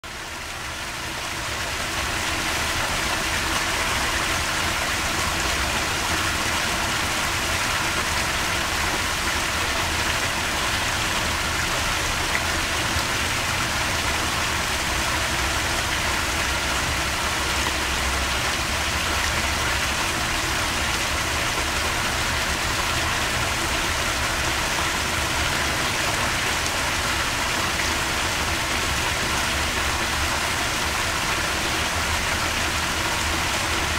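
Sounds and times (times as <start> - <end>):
running water in a pond: 0.0 - 33.9.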